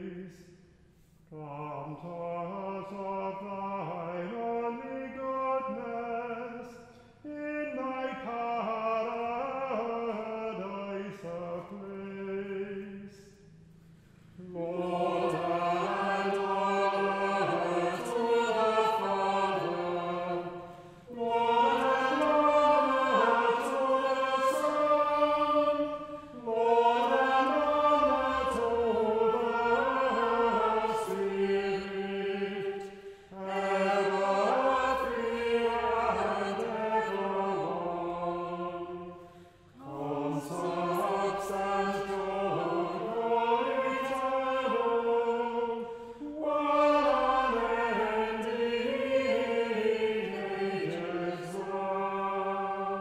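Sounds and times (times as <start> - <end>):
choir singing in harmony: 1.4 - 13.5, 14.3 - 53.0.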